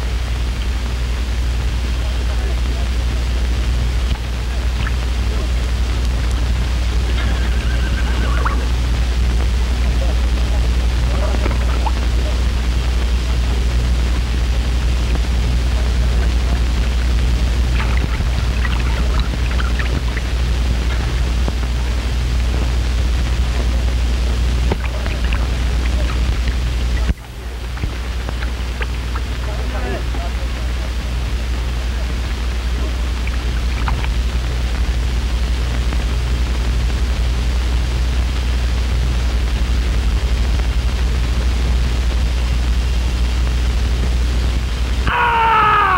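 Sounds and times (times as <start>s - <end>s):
film soundtrack hiss: 0.0s - 45.9s
low hum: 0.0s - 45.9s.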